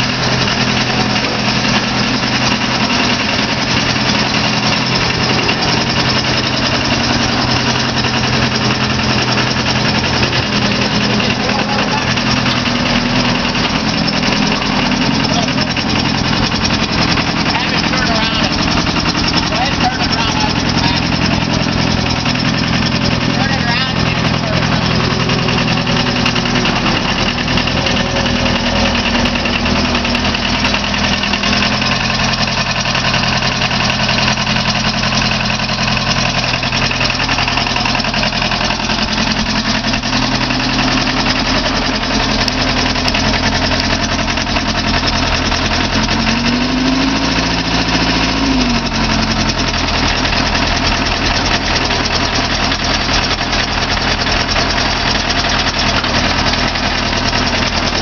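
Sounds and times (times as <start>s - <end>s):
diesel engine running and revving: 0.0s - 58.0s.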